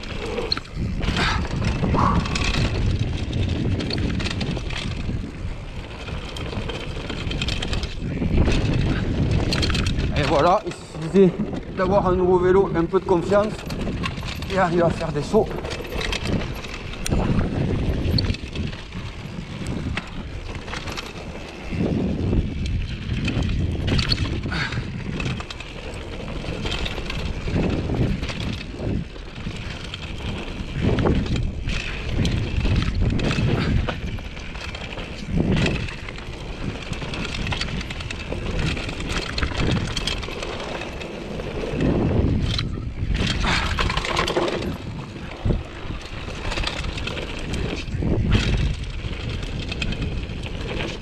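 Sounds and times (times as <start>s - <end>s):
bike clattering over bumps: 0.0s - 51.0s
bike tyres rumbling over dirt: 0.0s - 51.0s.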